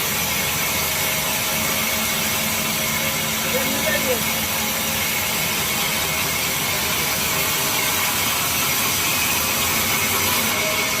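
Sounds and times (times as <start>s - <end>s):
sawmill saw running: 0.0s - 11.0s.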